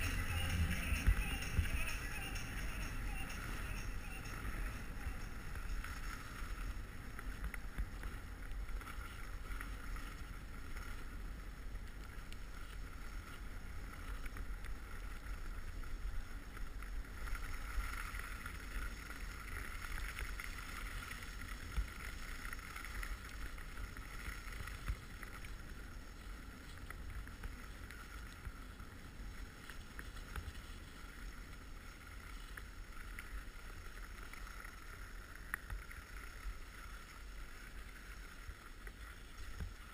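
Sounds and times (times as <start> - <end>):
skis sliding over snow: 0.0 - 39.9
wind rumble on microphone: 0.0 - 39.9.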